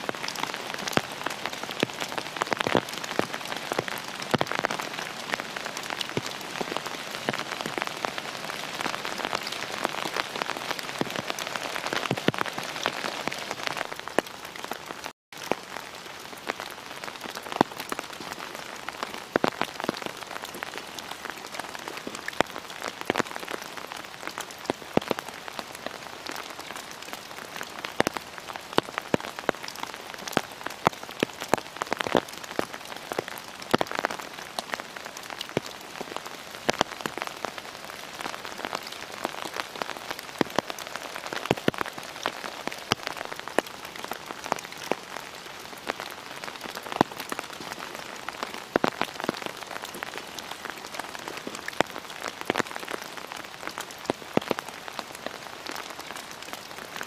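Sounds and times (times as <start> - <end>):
close raindrop hits: 0.0 - 57.0
steady rain: 0.0 - 57.0.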